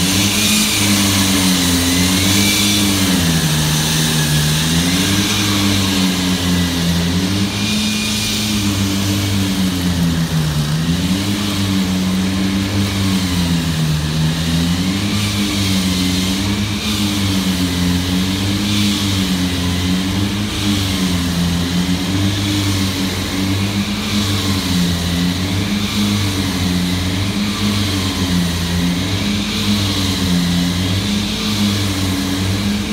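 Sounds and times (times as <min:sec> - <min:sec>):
construction machine engine wavering: 0:00.0 - 0:32.9.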